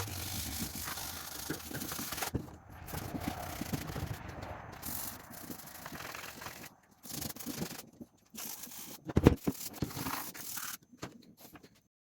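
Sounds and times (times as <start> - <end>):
scrubbing on plastic: 0.0 - 10.8.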